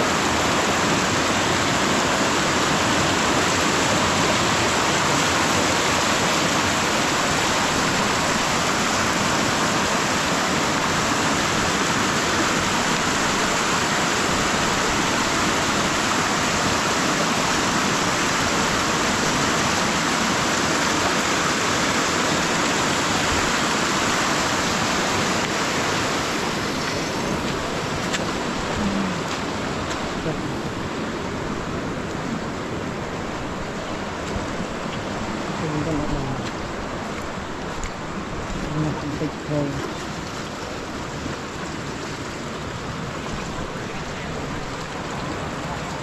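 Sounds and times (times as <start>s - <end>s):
floodwater rushing: 0.0s - 46.0s.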